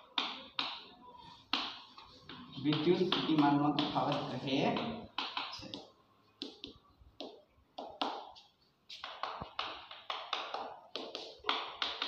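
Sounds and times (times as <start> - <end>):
chalk tapping and scratching on chalkboard: 0.0 - 12.0.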